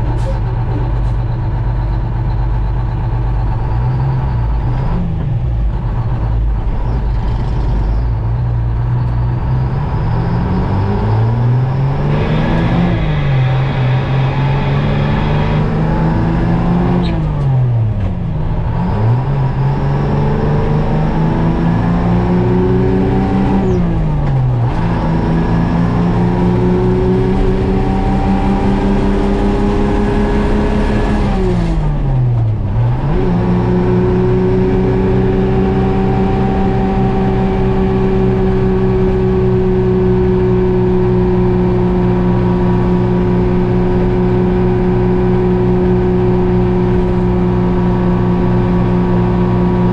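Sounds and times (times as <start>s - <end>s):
diesel truck engine shifting gears: 0.0s - 49.9s.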